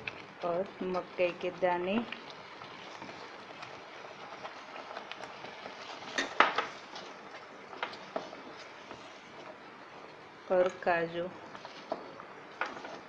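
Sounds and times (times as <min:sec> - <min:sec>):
spatula stirring thick gravy: 0:00.0 - 0:13.0.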